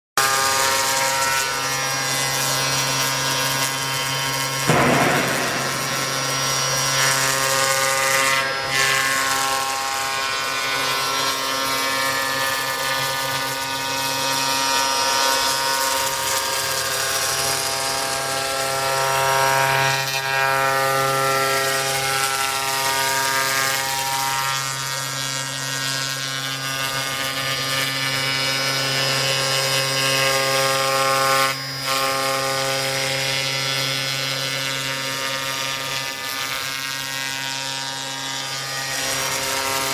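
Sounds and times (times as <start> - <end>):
cnc router whine: 0.2 - 39.9.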